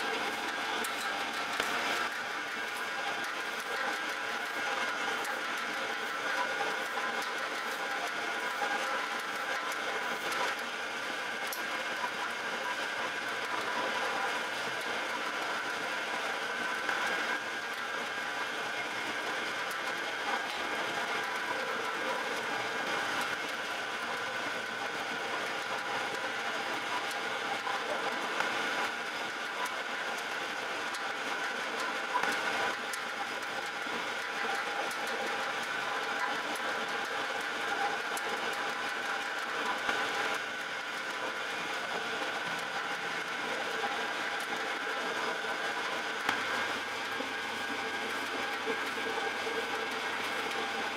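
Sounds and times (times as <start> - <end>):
dough kneading machine drone: 0.0 - 50.9.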